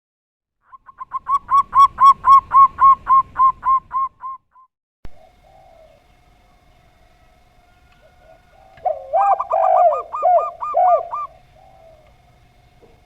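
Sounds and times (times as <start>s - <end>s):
dove cooing: 0.8s - 4.1s, 5.1s - 13.0s.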